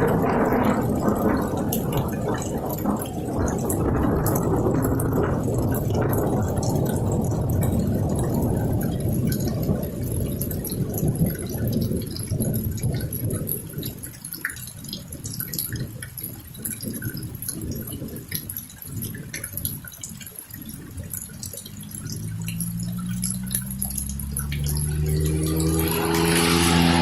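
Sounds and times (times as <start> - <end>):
thunder rumbling: 0.0 - 16.2, 20.6 - 27.0
rain dripping and pattering: 0.0 - 27.0.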